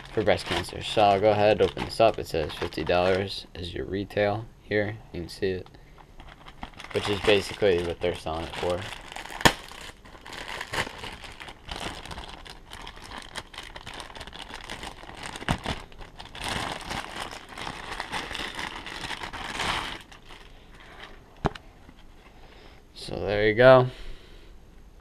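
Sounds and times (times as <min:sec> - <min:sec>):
plastic bag crinkling: 0:00.0 - 0:03.4, 0:05.4 - 0:22.2.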